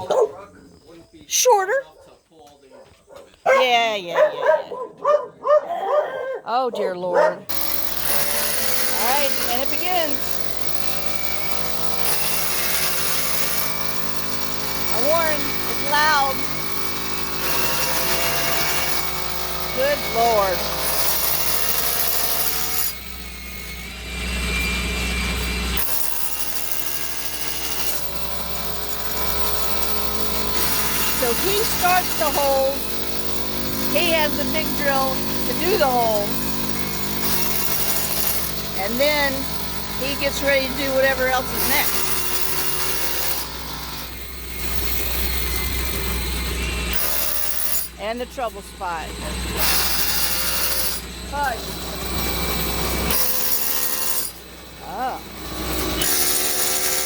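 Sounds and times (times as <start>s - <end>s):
large drill humming: 7.5s - 57.0s.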